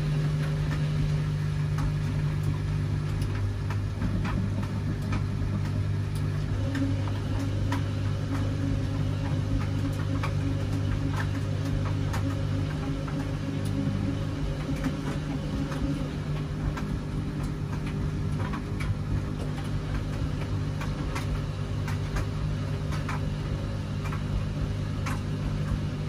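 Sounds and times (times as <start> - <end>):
washing machine motor hum: 0.0 - 26.0
drum clicks and knocks: 3.2 - 26.0.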